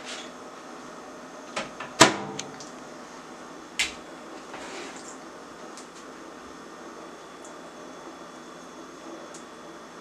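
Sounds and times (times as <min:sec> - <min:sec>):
steady room hum: 0:00.0 - 0:10.0.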